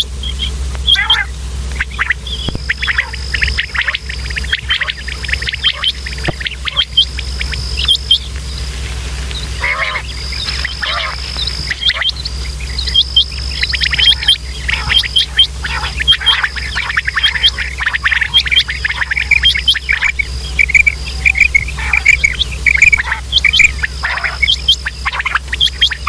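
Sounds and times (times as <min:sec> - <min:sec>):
low hum: 0:00.0 - 0:26.0
quail calling: 0:00.0 - 0:26.0
high insect-like trill: 0:01.8 - 0:26.0.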